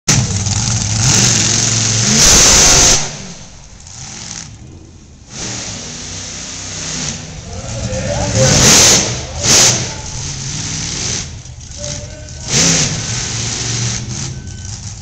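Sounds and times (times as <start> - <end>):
truck engine revving hard: 0.1 - 4.6, 5.2 - 15.0.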